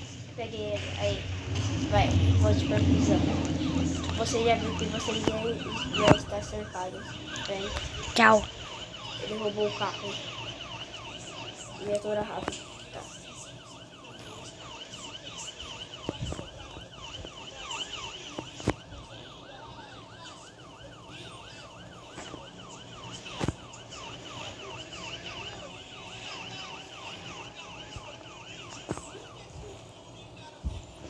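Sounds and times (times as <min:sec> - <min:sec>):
police siren yelping: 0:00.0 - 0:31.0.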